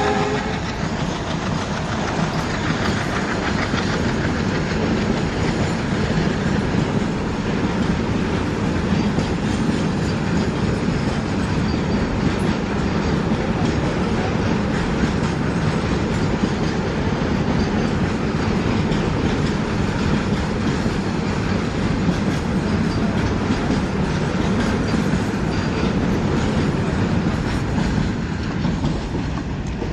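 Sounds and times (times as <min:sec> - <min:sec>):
freight train rumbling: 0:00.0 - 0:29.9
wheels clattering over rail joints: 0:00.0 - 0:29.9.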